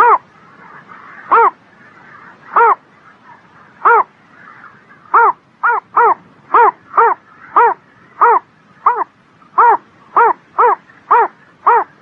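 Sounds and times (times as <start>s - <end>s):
pond animal calling: 0.0s - 12.0s.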